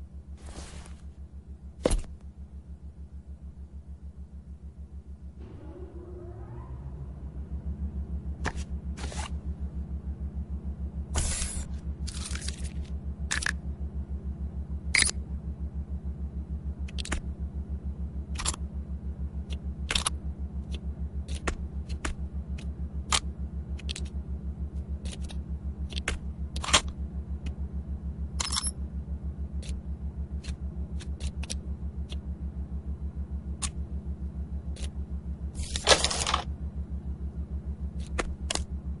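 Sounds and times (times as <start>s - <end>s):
machinery low pulsing: 1.1s - 39.0s.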